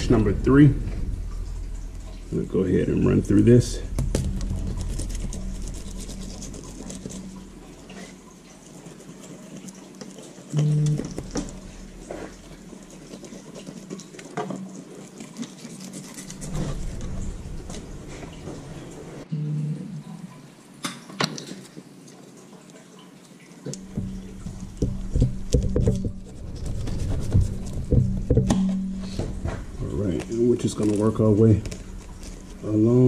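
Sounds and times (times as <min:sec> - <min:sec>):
dripping water: 0:00.0 - 0:19.3, 0:20.0 - 0:33.0.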